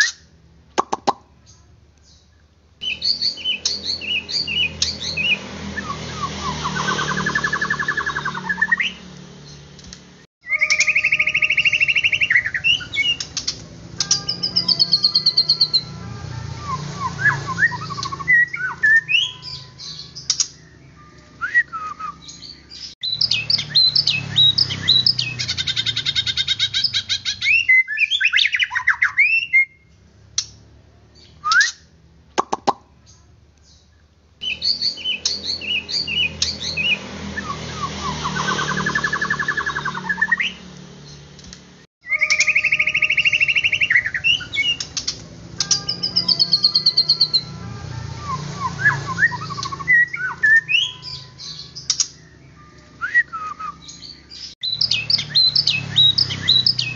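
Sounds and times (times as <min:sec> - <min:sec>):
bird singing whistles and trills: 0:00.0 - 0:09.0, 0:10.4 - 0:29.9, 0:31.2 - 0:41.2, 0:42.0 - 0:56.9.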